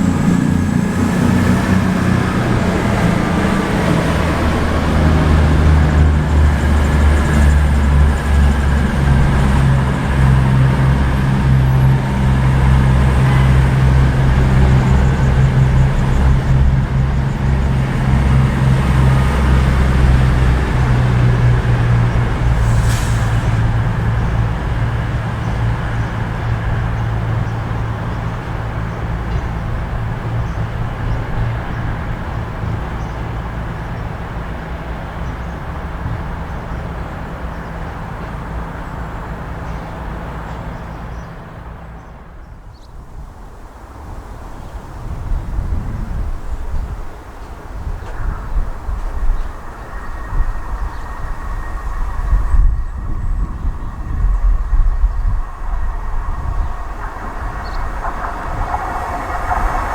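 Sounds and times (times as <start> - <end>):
diesel train engine drone: 0.0 - 59.9.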